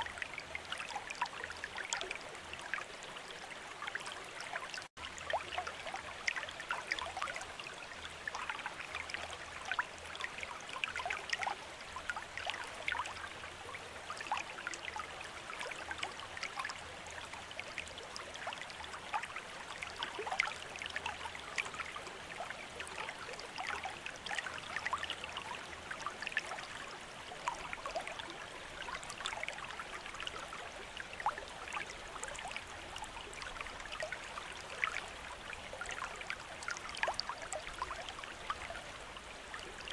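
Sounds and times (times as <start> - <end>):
water trickling from fountain: 0.0 - 39.9.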